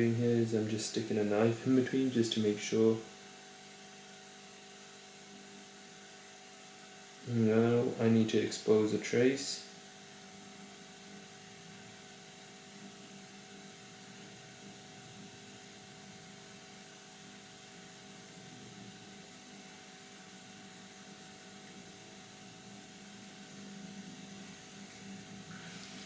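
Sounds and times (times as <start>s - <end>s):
electrical equipment hum: 0.0s - 26.0s.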